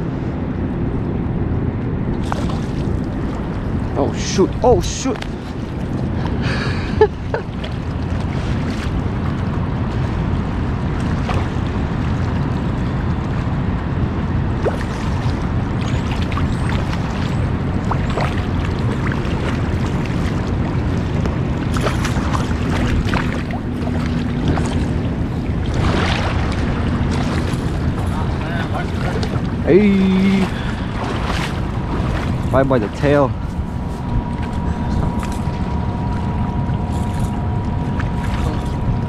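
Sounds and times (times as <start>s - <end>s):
faint steady hum: 0.0s - 39.0s
wind rumbling on microphone: 0.0s - 39.0s.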